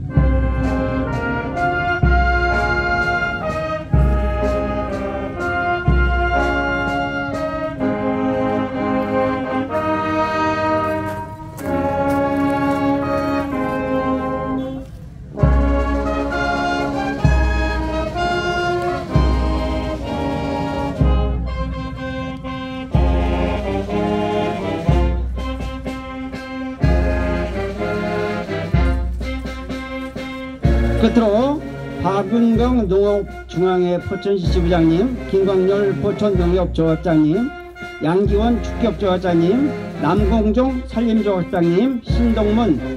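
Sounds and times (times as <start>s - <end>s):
deep low drum beat: 0.0s - 14.6s, 15.3s - 41.2s
brass band playing: 0.0s - 42.9s.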